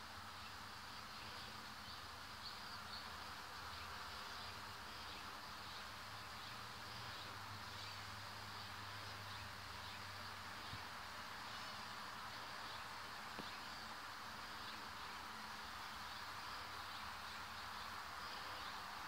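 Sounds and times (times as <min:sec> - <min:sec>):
faint insect buzzing: 0:00.0 - 0:19.0.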